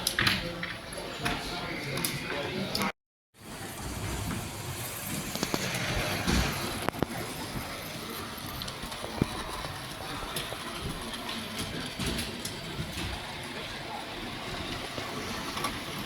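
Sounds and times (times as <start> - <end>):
exhibition hall background noise: 0.0 - 16.0.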